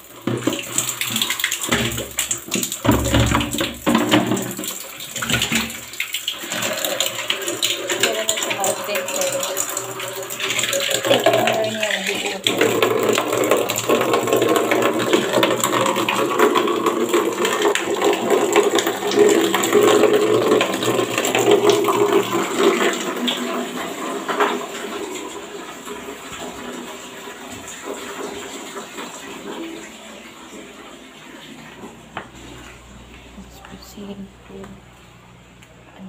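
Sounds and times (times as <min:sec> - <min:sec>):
tap water pouring into basin: 0:00.0 - 0:33.4.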